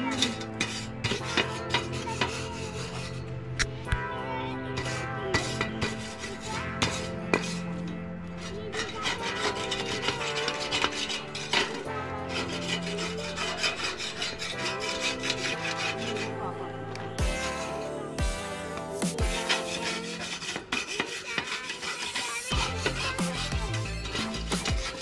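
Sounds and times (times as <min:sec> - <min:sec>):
wire brush scrubbing grill grate: 0:00.0 - 0:03.3, 0:04.8 - 0:25.0.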